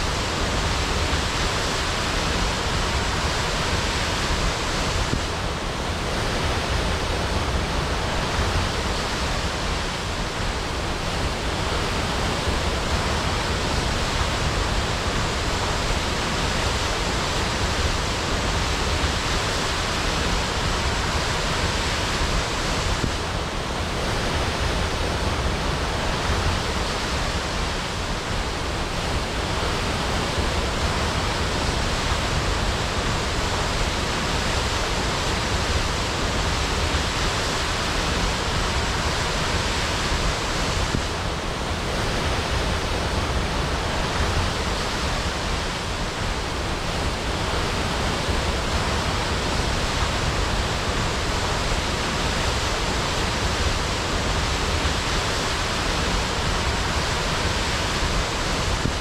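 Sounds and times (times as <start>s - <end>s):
waterfall crashing: 0.0s - 59.0s.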